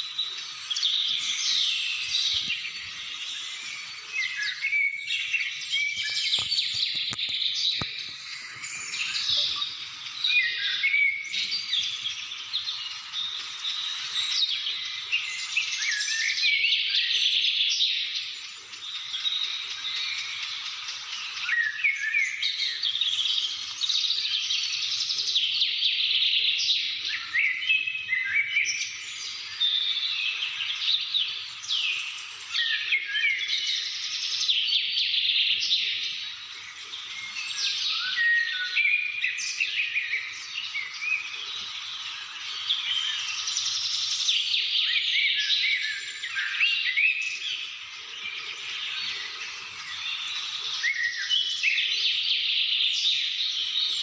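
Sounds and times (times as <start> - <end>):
birds chirping and calling: 0.0 - 54.0.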